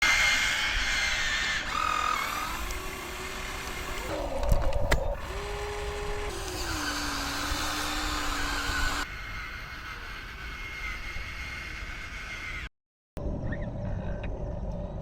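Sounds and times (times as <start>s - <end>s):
small electric motors whining: 0.0s - 12.7s.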